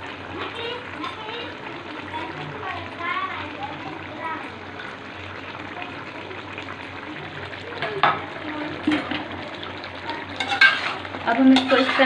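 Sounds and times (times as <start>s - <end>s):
curry simmering in a pot: 0.0s - 12.0s.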